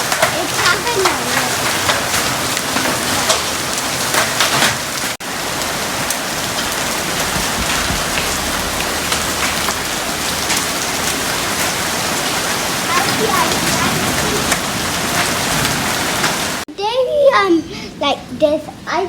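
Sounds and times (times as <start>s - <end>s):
hailstones ticking: 0.0s - 16.6s
heavy rain hiss: 0.0s - 16.7s.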